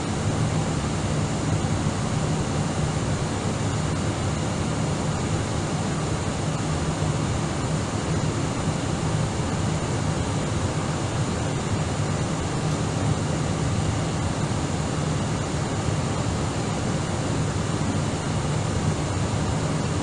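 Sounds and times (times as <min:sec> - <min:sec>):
low drone of jet engines: 0:00.0 - 0:20.0
rush of air along fuselage: 0:00.0 - 0:20.0.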